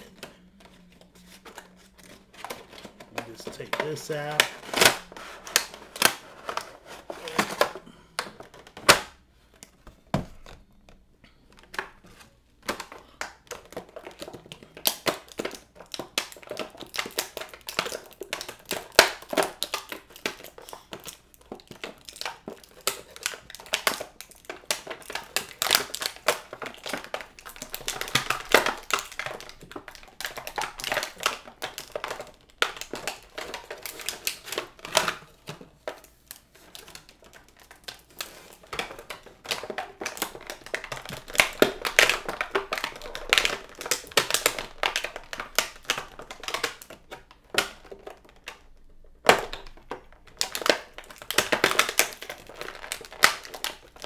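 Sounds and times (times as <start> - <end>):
plastic packaging crinkling: 0.0 - 9.2, 10.4 - 54.0.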